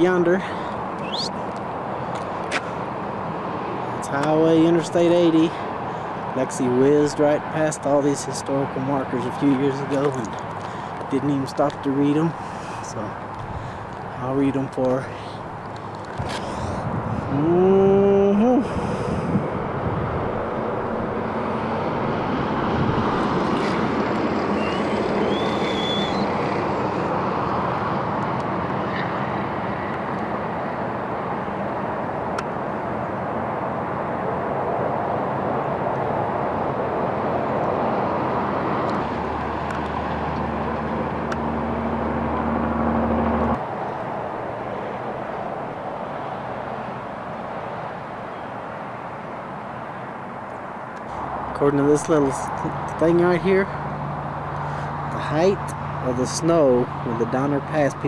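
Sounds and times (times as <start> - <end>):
highway traffic roar: 0.0 - 58.0.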